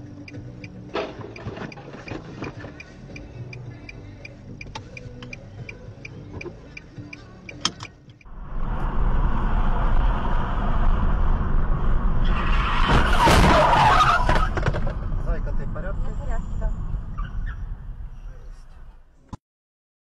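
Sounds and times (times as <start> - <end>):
car driving road noise: 0.0 - 19.3.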